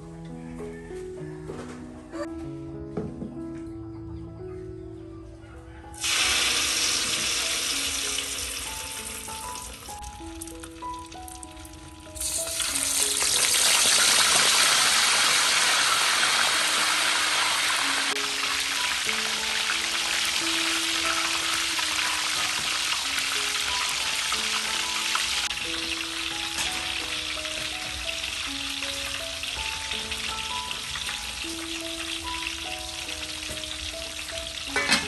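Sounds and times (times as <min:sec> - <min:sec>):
background music: 0:00.0 - 0:35.0
hot oil sizzling in wok: 0:06.0 - 0:35.0.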